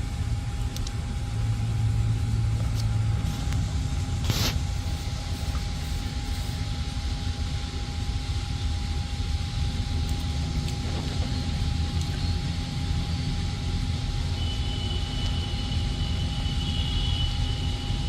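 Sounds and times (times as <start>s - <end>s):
faint constant whine: 0.0s - 18.0s
low motor drone: 0.0s - 18.0s.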